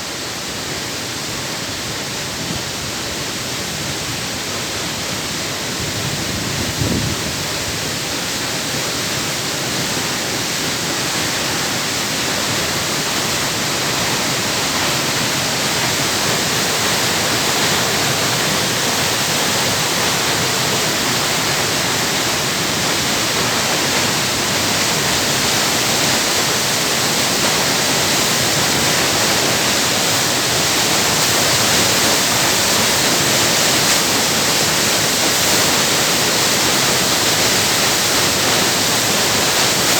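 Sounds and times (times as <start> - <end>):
water rushing down spillway: 0.0 - 39.9.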